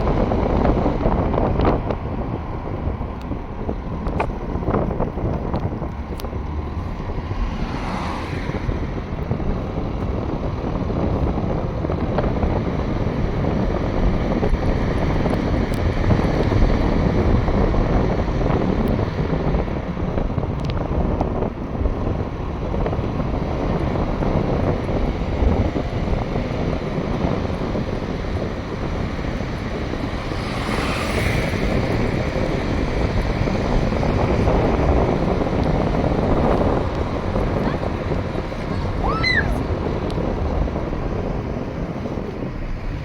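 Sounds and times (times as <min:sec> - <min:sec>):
wind rumbling on microphone: 0:00.0 - 0:43.0.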